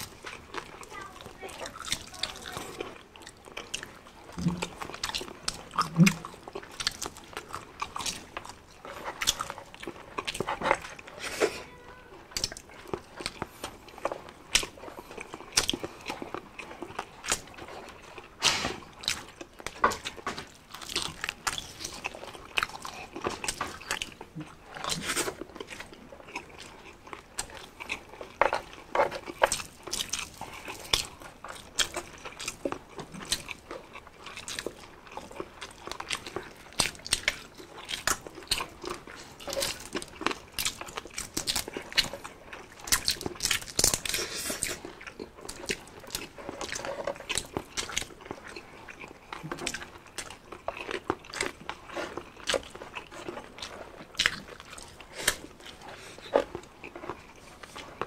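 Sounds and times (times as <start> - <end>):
crisp crunching and chewing: 0.0 - 58.0.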